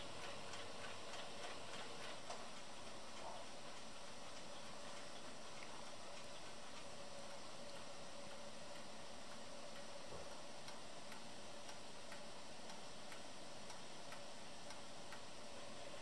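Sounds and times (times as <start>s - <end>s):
background hiss: 0.0s - 16.0s
pendulum clock ticking: 0.0s - 16.0s.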